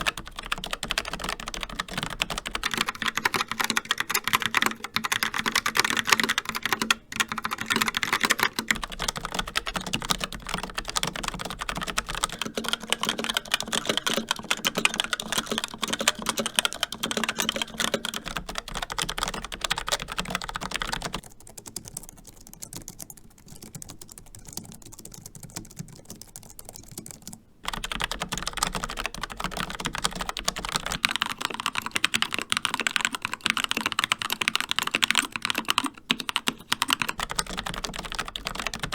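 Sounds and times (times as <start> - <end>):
fast typing on keyboards: 0.0 - 38.9.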